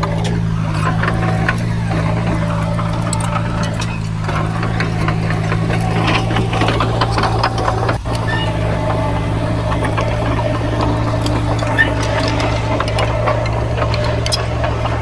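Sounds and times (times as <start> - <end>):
heavy diesel engine running: 0.0 - 15.0
metal clanks and rattles: 0.0 - 15.0.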